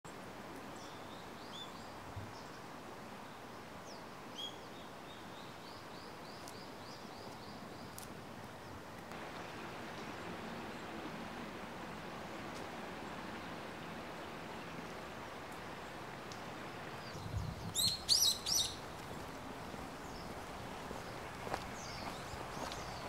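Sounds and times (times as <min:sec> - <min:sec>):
faint background hiss: 0:00.1 - 0:23.0
songbirds chirping: 0:00.1 - 0:23.0.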